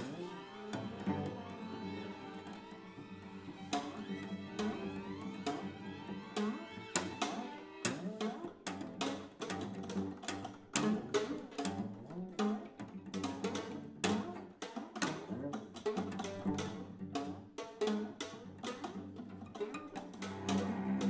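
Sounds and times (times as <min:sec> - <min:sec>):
string quartet playing: 0:00.0 - 0:21.0
percussive string attacks: 0:03.4 - 0:21.0.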